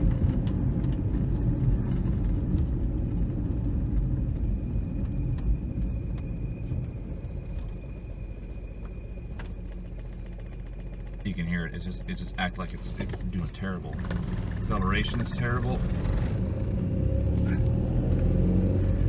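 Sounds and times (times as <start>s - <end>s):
car engine running rough: 0.0s - 19.0s.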